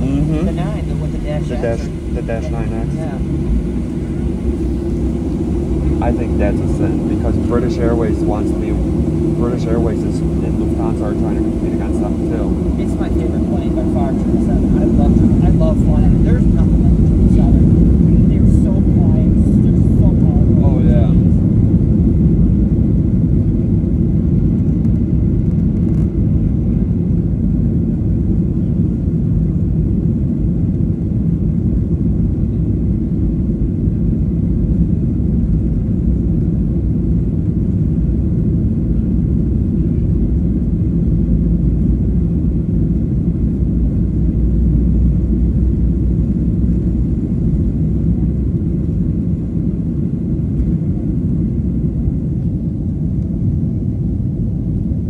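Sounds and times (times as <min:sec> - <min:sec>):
jet engines at takeoff power: 0:00.0 - 0:55.0
wheels rumbling on runway: 0:00.0 - 0:55.0.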